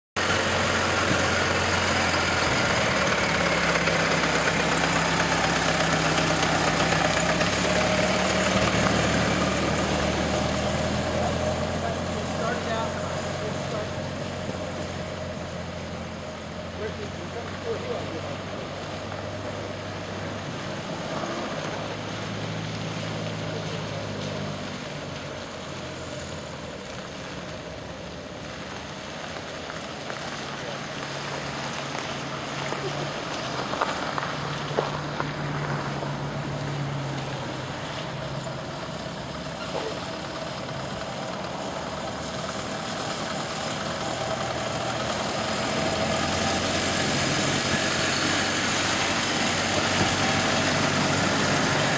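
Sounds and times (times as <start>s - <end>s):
small car engine running: 0.2s - 51.9s.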